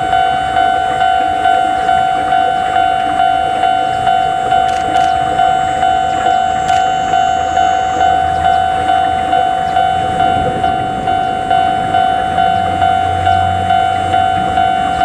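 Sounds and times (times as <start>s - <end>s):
level crossing warning bell: 0.0s - 15.0s
locomotive low rumble: 0.0s - 15.0s.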